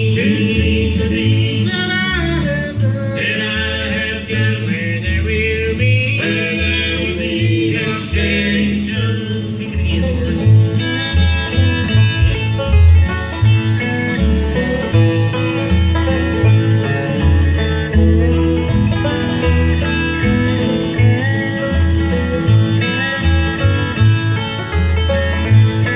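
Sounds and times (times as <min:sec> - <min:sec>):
acoustic guitar: 0:00.0 - 0:25.9
banjo: 0:00.0 - 0:25.9
dobro: 0:00.0 - 0:25.9
upright bass pulsing: 0:00.0 - 0:25.9.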